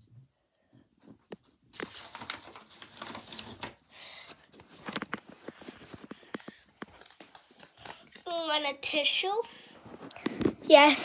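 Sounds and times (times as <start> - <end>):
rustling and crinkling handling: 1.0 - 11.0.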